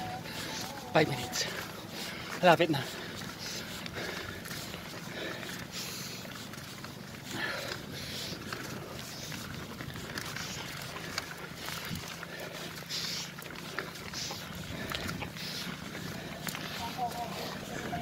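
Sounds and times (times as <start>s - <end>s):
person breathing hard: 0.0s - 18.0s.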